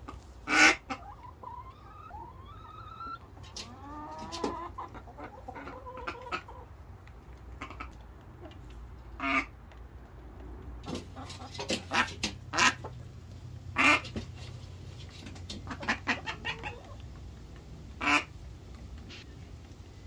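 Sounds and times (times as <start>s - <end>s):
hen clucking: 0.0s - 10.2s, 10.8s - 20.0s.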